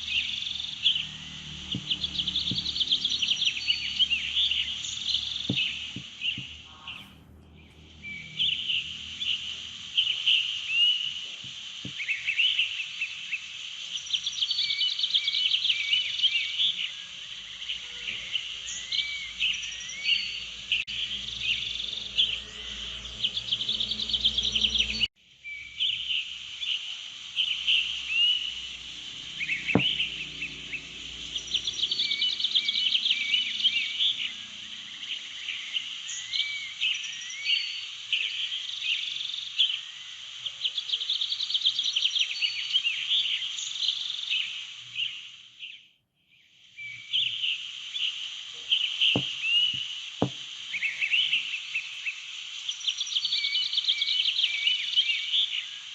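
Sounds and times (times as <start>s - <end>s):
steady high hiss: 0.0s - 17.7s, 18.4s - 45.8s, 46.6s - 55.9s
birds chirping and trilling: 0.0s - 55.9s.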